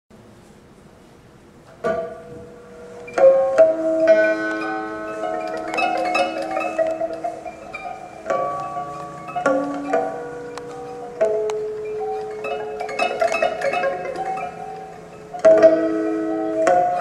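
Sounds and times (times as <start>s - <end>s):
plucked lute notes: 1.9s - 17.0s.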